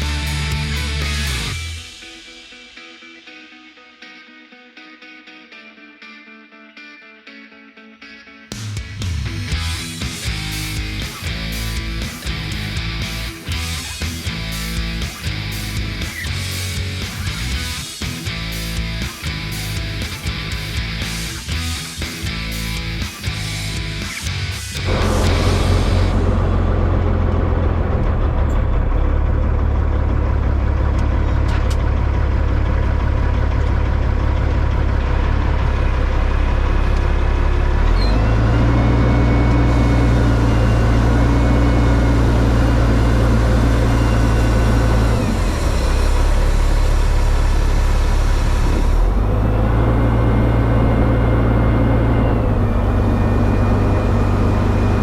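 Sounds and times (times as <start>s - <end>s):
diesel truck engine: 0.0s - 2.0s, 9.0s - 55.0s.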